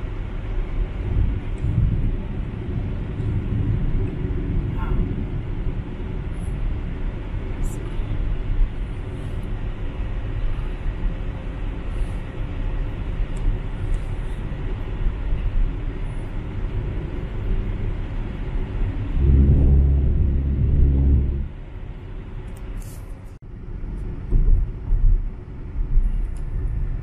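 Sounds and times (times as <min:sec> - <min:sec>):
car cabin road and engine rumble: 0:00.0 - 0:27.0.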